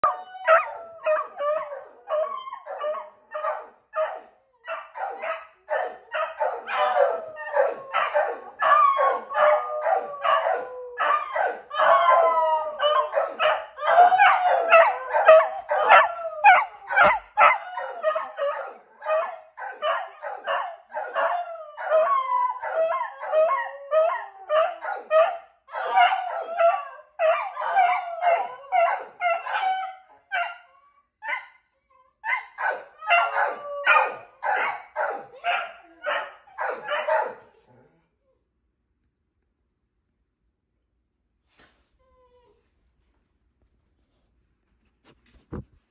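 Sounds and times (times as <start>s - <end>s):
dogs baying and howling: 0.0s - 31.5s, 32.2s - 37.9s.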